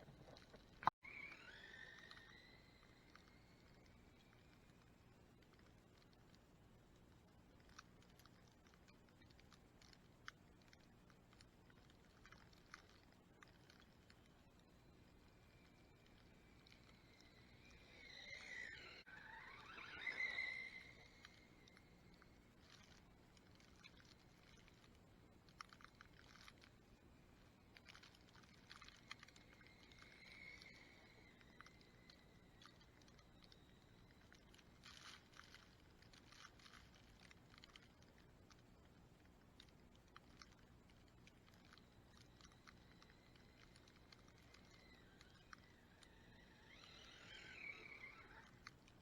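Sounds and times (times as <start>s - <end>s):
faint crackling clicks: 0.0s - 49.0s
low steady hum: 0.0s - 49.0s.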